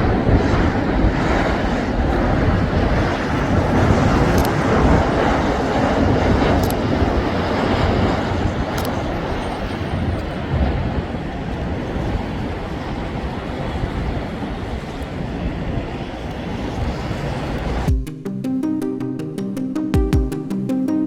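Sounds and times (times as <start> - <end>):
wind rumble on microphone: 0.0 - 18.0
jet engines rushing: 0.0 - 21.0.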